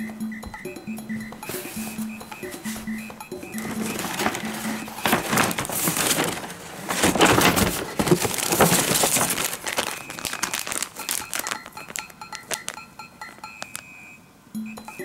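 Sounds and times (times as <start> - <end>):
paper and plastic packaging crinkling: 1.4 - 13.9.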